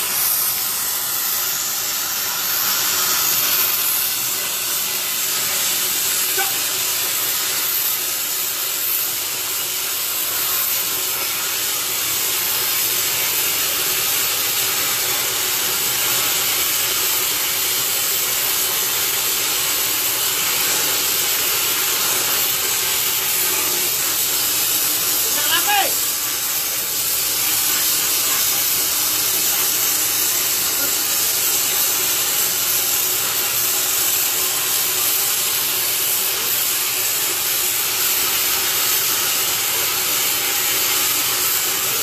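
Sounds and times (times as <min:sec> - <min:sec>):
steady high hiss: 0:00.0 - 0:42.0.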